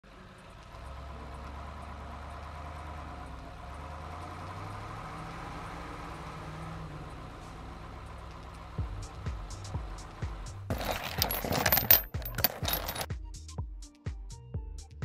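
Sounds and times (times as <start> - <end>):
truck engine running: 0.0 - 13.1.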